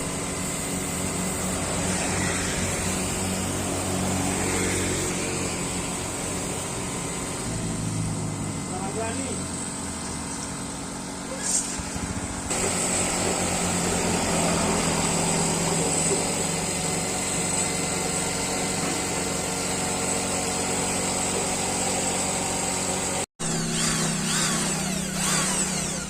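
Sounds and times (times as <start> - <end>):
power tool whining: 0.0 - 26.0.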